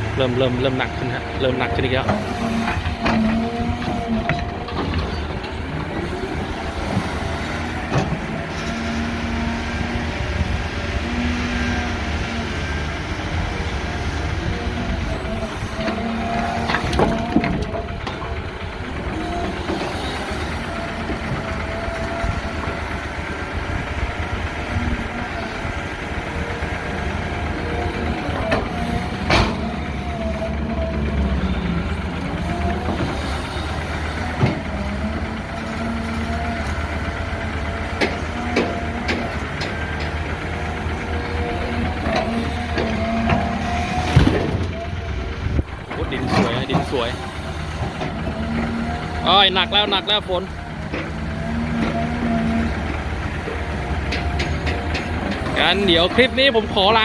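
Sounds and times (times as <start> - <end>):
excavator engine running: 0.0 - 57.0
hydraulic whine: 0.0 - 57.0.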